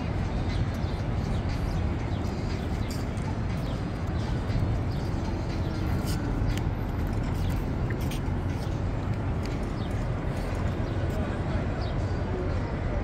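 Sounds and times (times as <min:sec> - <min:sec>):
steady low traffic rumble: 0:00.0 - 0:13.0.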